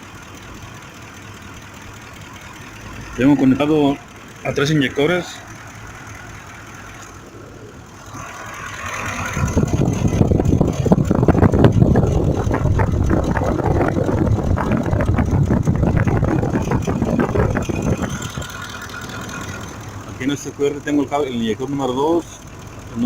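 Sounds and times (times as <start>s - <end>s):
dense engine ticking: 0.0s - 23.0s
truck engine idling: 0.0s - 23.0s.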